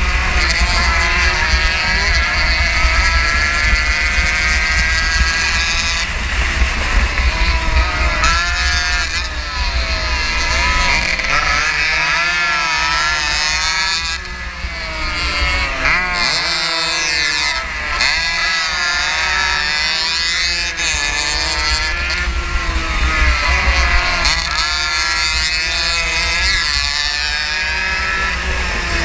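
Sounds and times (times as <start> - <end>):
racing motorcycle engine revving: 0.0 - 29.0
wind rumble on microphone: 0.0 - 29.0.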